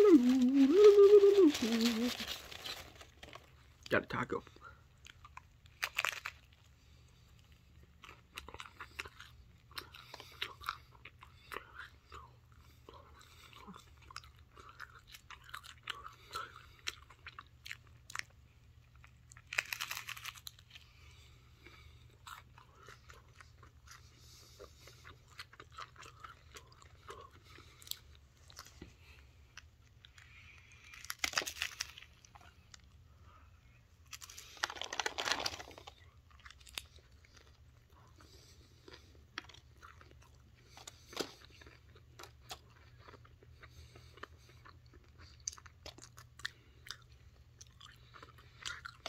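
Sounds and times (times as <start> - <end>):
person chewing crunchy taco shell: 0.0 - 33.2, 34.0 - 49.0.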